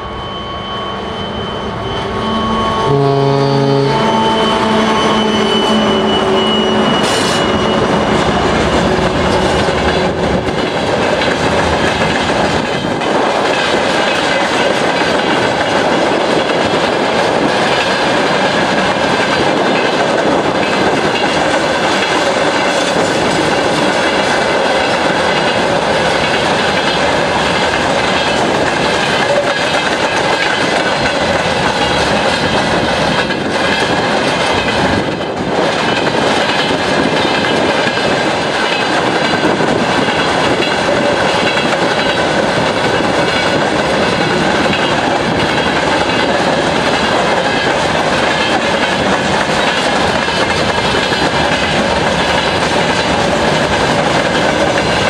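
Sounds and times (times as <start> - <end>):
diesel locomotive engine hum: 0.0 - 55.0
train wheels clattering over rail joints: 8.4 - 55.0.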